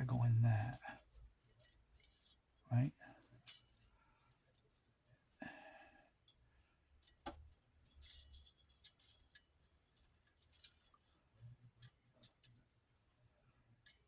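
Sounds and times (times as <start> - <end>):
faint clicks and taps of parts: 0.6 - 14.0.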